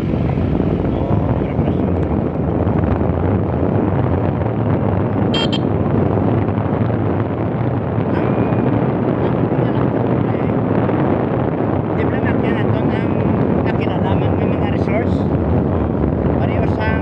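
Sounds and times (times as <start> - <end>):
vehicle rumbling: 0.0 - 17.0
wind buffeting microphone: 0.0 - 17.0.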